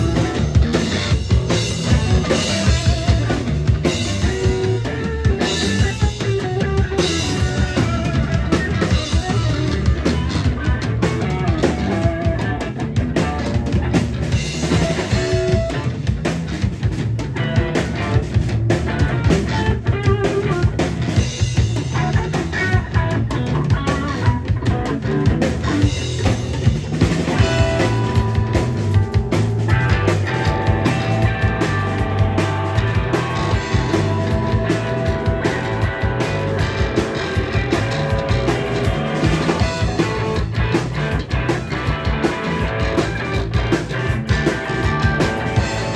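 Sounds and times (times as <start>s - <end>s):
drum kit beat: 0.0s - 45.9s
electric guitar: 0.0s - 45.9s.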